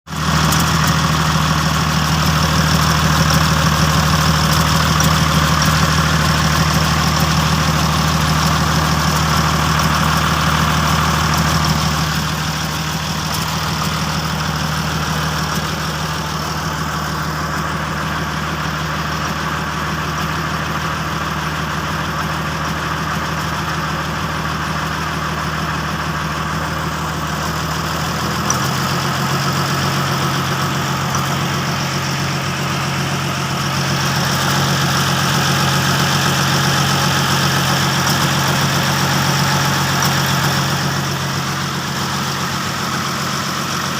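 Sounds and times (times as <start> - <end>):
diesel engine idling: 0.1 - 43.9.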